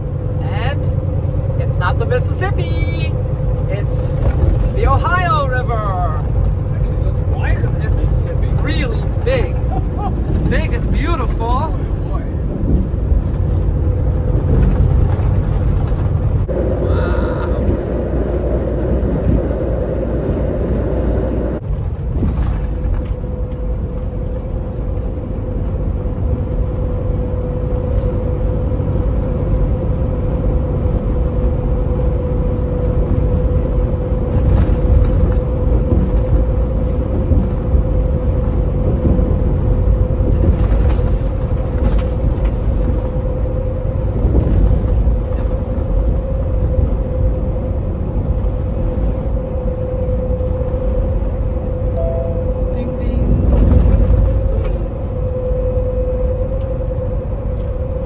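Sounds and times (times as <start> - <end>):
steady hum: 0.0 - 58.0
truck engine and road noise: 0.0 - 58.0.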